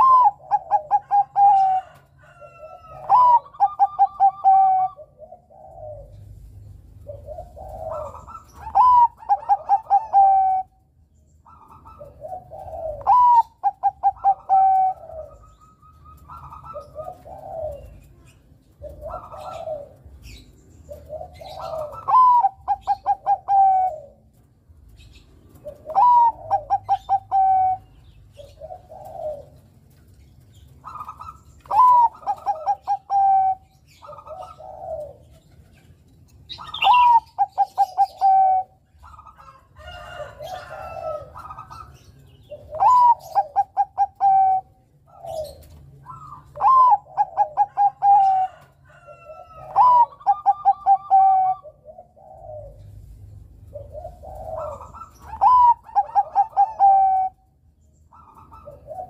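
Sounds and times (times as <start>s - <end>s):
dove cooing song: 0.0s - 59.0s
soft dove cooing: 0.0s - 59.0s.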